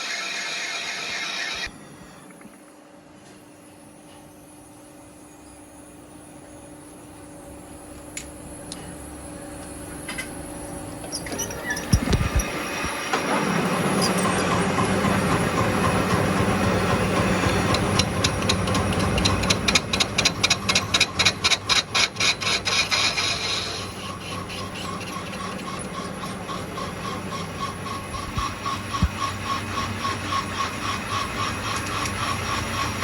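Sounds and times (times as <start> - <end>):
metalworking machinery humming: 0.0 - 33.0.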